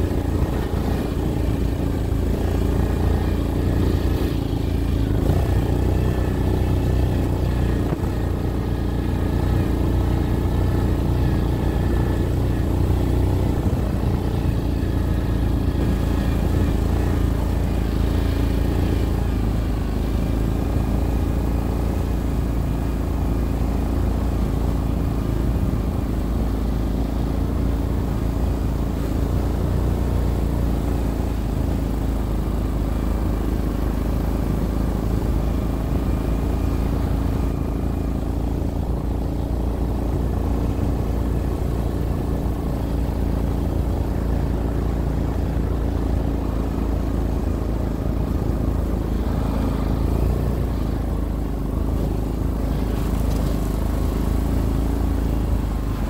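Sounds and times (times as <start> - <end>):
atv engine droning: 0.0 - 56.0.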